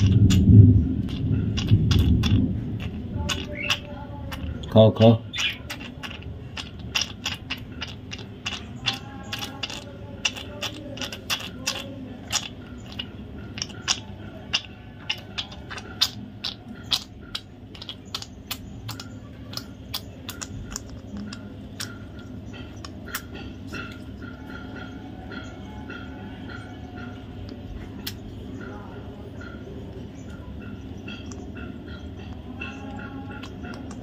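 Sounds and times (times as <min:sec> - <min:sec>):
budgie chirping and clicking: 0:00.0 - 0:34.0.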